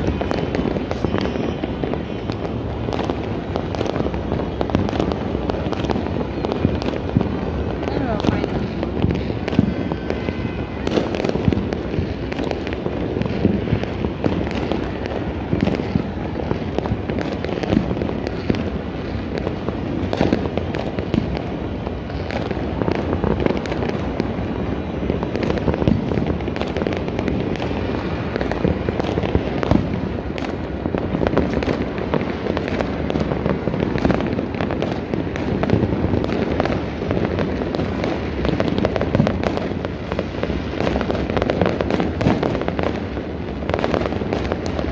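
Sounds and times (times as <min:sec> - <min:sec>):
fireworks crackling and banging: 0:00.0 - 0:44.9.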